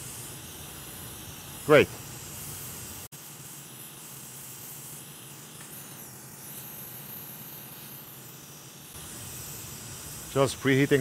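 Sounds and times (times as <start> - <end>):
extractor fan air rushing: 0.0 - 11.0.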